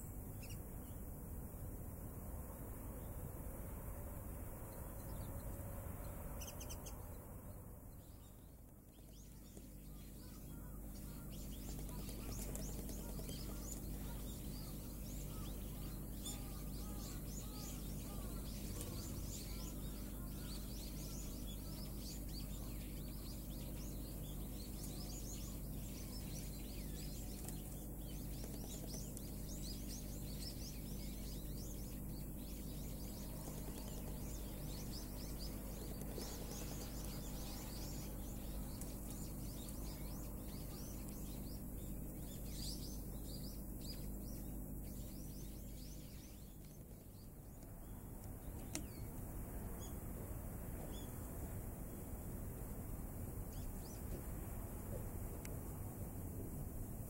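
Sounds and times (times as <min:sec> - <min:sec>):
birds chirping: 0:00.0 - 0:01.1, 0:04.7 - 0:50.1, 0:53.4 - 0:55.2
steady low hum: 0:00.0 - 0:57.0.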